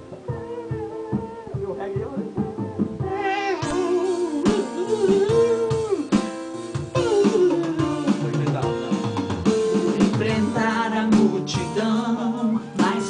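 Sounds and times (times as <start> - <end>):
electric lead guitar melody: 0.0 - 10.7
drum kit: 0.0 - 13.0.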